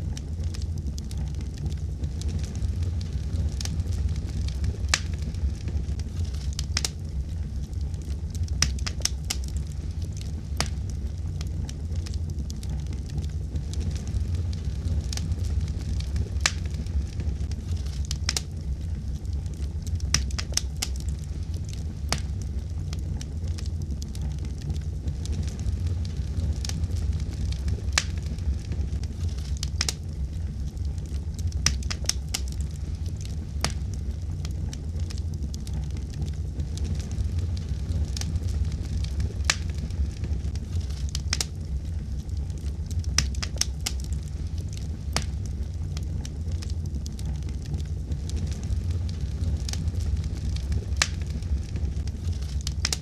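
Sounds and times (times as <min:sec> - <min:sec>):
fire crackling: 0:00.0 - 0:53.0
fire popping: 0:00.0 - 0:53.0
steady low rumble: 0:00.0 - 0:53.0.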